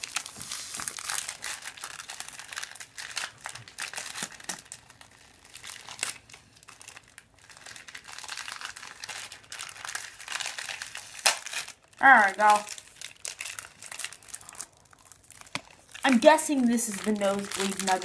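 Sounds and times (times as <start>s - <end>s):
candy wrapper crinkling: 0.0s - 18.0s.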